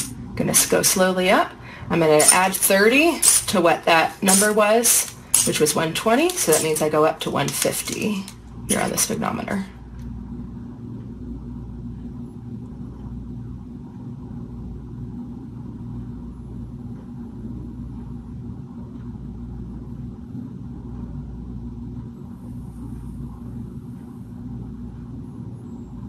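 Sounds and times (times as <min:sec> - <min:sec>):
low room rumble: 0:00.0 - 0:26.0.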